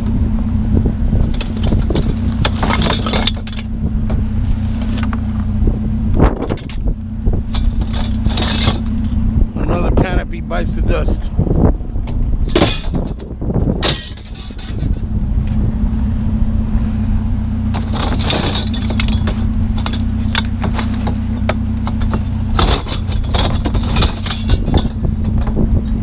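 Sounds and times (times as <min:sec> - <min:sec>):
vehicle engine idling: 0:00.0 - 0:26.0
metal tubes clanking and rattling: 0:01.2 - 0:05.6, 0:06.2 - 0:11.4, 0:12.1 - 0:15.2, 0:17.6 - 0:26.0.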